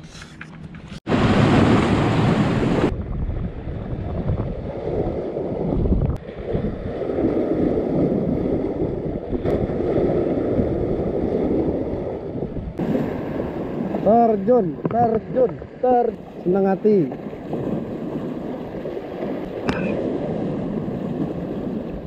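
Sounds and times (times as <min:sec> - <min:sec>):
surf washing onto beach: 0:01.1 - 0:22.0
wind buffeting microphone: 0:01.1 - 0:22.0.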